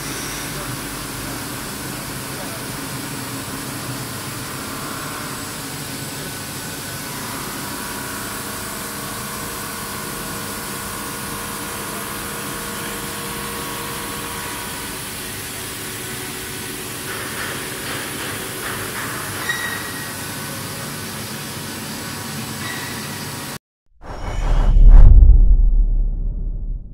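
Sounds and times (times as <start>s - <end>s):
machine hum and hiss: 0.0s - 23.6s.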